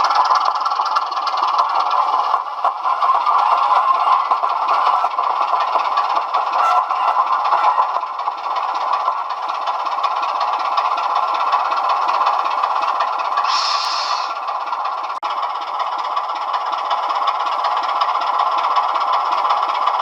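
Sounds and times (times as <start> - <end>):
model locomotive engine sound: 0.0 - 20.0.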